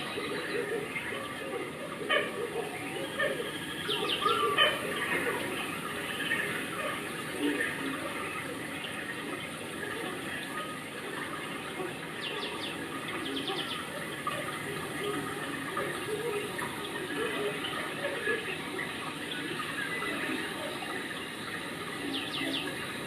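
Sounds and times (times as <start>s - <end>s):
faint voices: 0.0s - 23.0s
rushing water: 0.0s - 23.0s.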